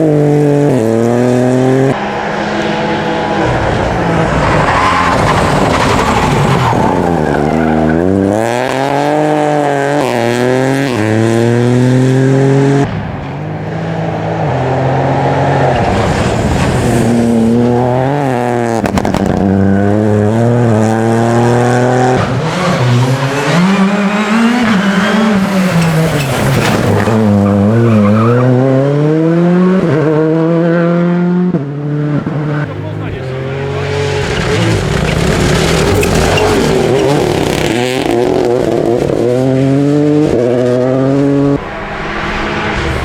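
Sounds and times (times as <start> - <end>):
rally car engines revving: 0.0 - 43.0
tyres skidding: 0.0 - 43.0.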